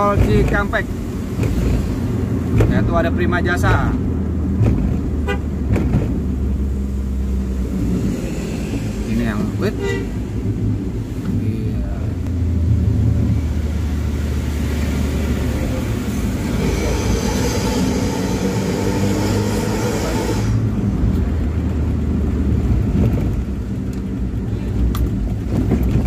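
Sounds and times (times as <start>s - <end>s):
tyre noise on wet road: 0.0s - 26.0s
low engine drone: 3.9s - 26.0s.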